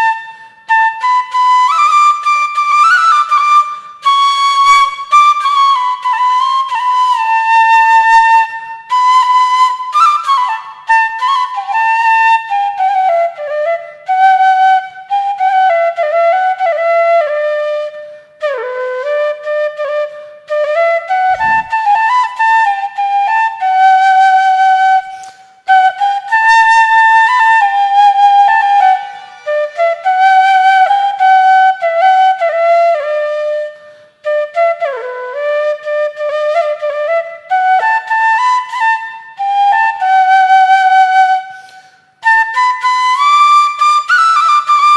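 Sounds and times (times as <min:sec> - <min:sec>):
solo flute melody: 0:00.0 - 0:44.9.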